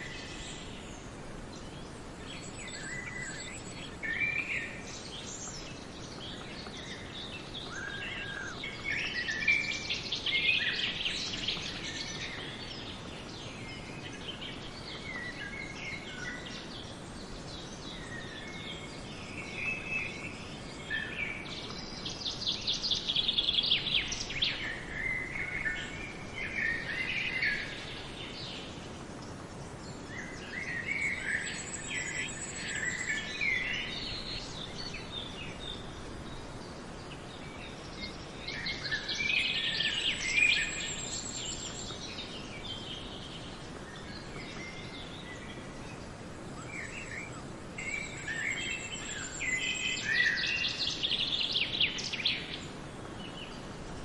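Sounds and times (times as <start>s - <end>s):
background hiss: 0.0s - 54.0s
songbirds singing and calling: 0.0s - 54.0s.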